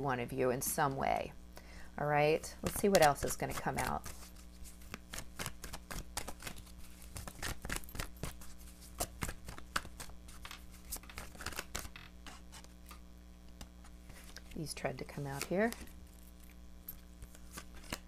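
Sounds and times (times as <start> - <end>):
cards being shuffled: 2.6 - 18.0.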